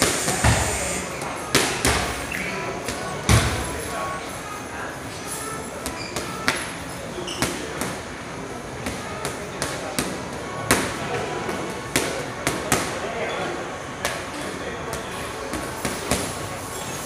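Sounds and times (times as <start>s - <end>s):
gym hubbub: 0.0s - 17.0s.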